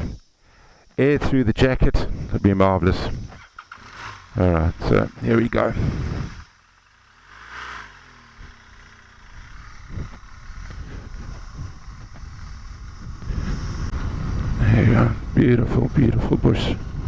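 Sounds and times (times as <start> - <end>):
motorcycle engine revving: 2.0 - 17.0.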